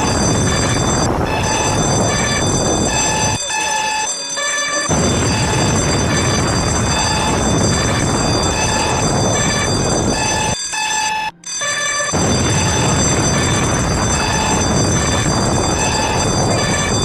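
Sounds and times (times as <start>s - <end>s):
harsh rushing static: 0.0s - 3.7s, 4.9s - 10.6s, 12.1s - 17.0s
beeping tone: 0.0s - 17.0s
steady high-pitched tones: 0.0s - 17.0s.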